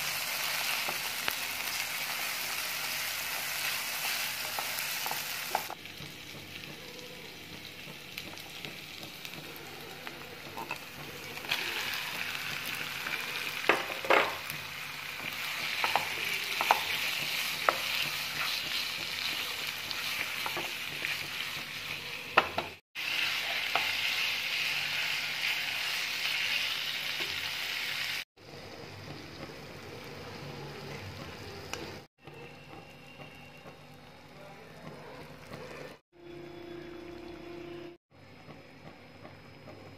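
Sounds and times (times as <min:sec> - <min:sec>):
food sizzling in oil: 0:00.0 - 0:32.4.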